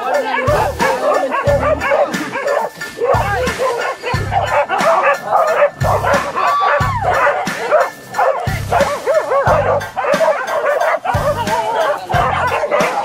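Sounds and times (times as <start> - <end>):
dogs barking and yelping: 0.0 - 13.0
music with drum beat: 0.0 - 13.0.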